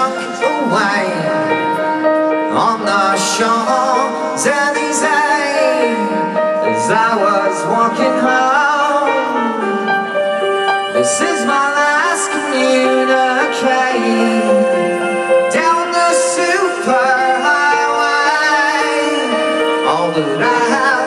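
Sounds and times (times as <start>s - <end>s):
lead singer's voice: 0.0s - 21.0s.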